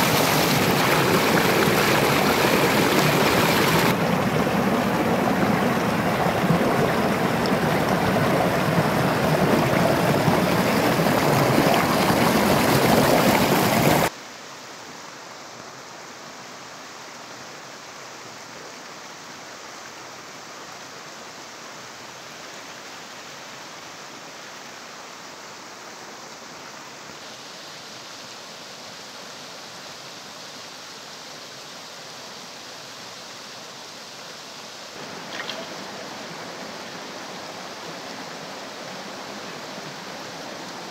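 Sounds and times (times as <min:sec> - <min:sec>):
stream water rushing over rocks: 0:00.0 - 0:40.9.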